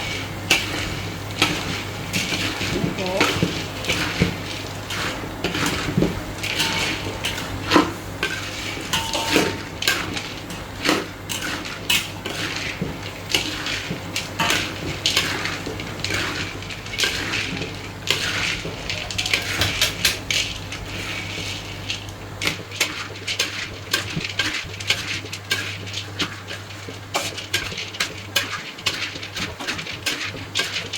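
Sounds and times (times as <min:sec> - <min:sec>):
metal spatula scraping frying pan: 0:00.0 - 0:30.9.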